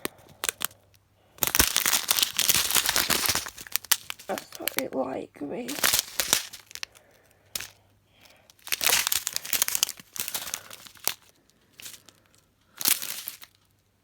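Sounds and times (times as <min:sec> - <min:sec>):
plastic bags crinkling: 0:00.0 - 0:13.9.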